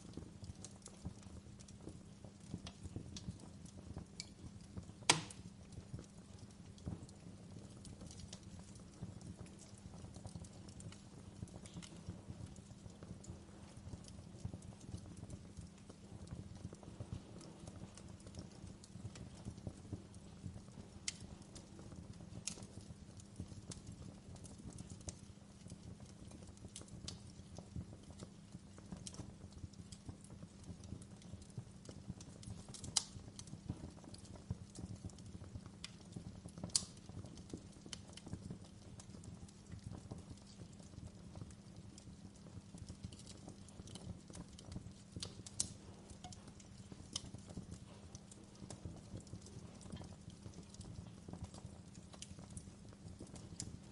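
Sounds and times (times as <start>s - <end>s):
sharp pops from fire: 0.0s - 53.9s
wood fire crackling: 0.0s - 53.9s.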